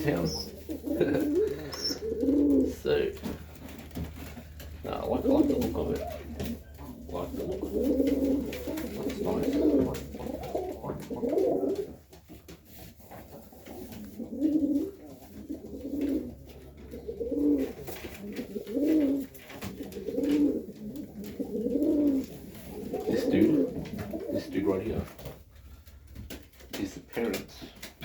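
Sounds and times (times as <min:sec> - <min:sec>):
pigeons cooing: 0:00.0 - 0:26.7.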